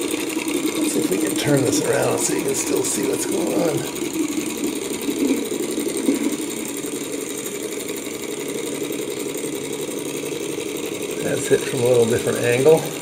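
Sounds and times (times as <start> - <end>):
small engine mechanical chatter: 0.0 - 13.0.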